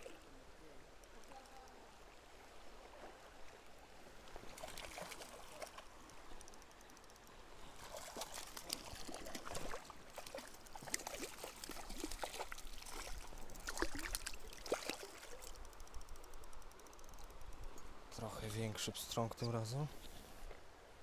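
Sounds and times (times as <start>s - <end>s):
stream water trickling and splashing: 0.0s - 21.0s.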